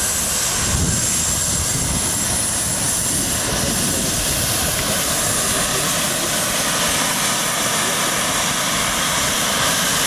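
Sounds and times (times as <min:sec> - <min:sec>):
model jet turbine engines running: 0:00.0 - 0:10.0.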